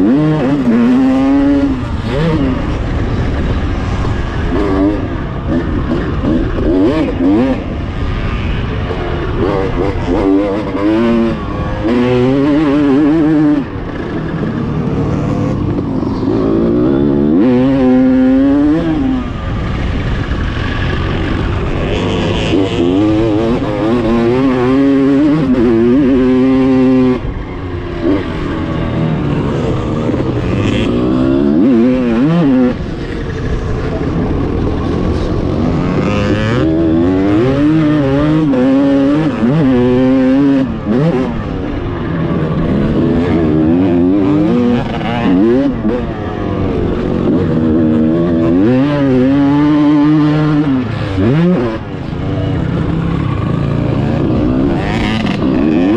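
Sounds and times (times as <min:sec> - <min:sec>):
two-stroke motorcycle engine revving: 0:00.0 - 0:55.9.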